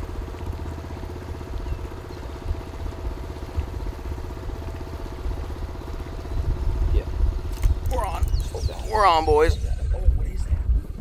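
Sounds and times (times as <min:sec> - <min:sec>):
small engine droning: 0:00.0 - 0:10.2.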